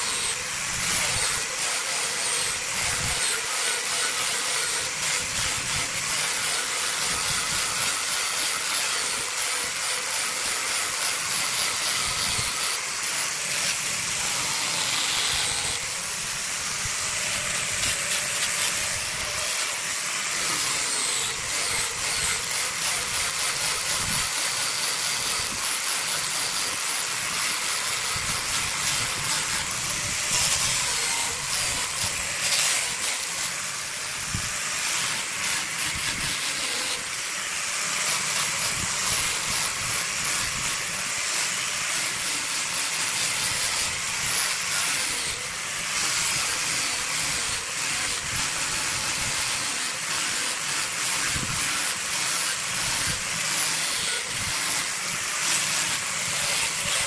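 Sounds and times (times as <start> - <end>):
abrasive sanding wood: 0.0 - 57.0
grinder motor running: 0.0 - 57.0.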